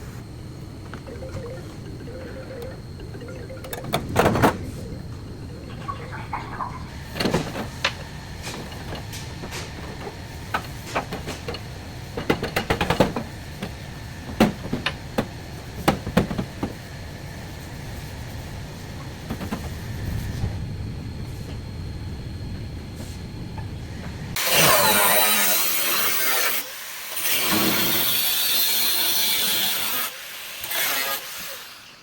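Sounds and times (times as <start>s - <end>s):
low workshop hum: 0.0s - 32.0s.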